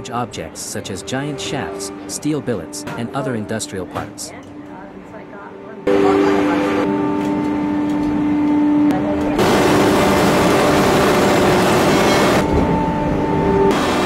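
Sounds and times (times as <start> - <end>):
machine hum with held tones: 0.0 - 14.0.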